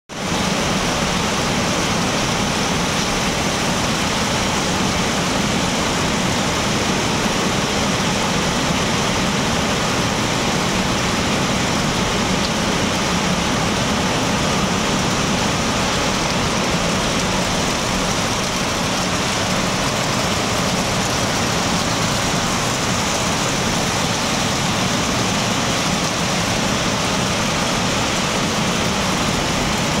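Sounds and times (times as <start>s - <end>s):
heavy rain hissing: 0.2s - 30.0s.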